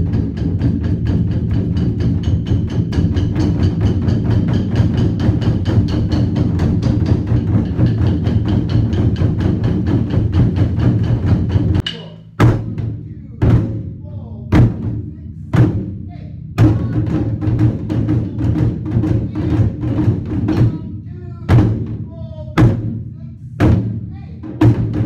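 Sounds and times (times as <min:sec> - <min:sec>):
taiko drums rolling: 0:00.0 - 0:25.0.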